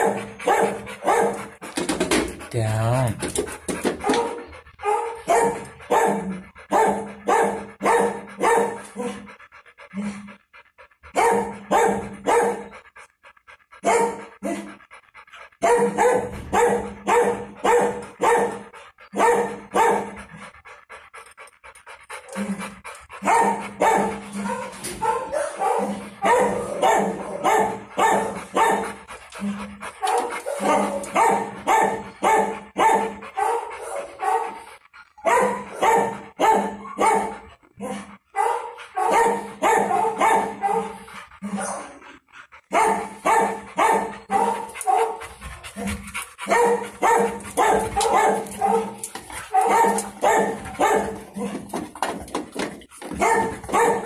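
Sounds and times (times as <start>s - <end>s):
large dog panting: 0.0s - 54.0s.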